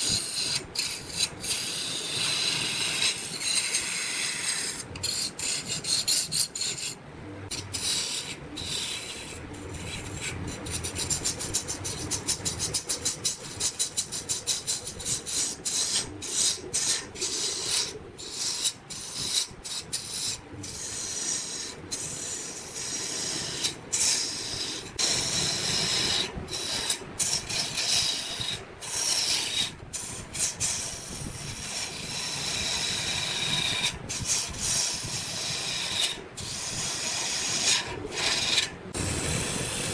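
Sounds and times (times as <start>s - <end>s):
wood scraping on a lathe: 0.0s - 39.9s.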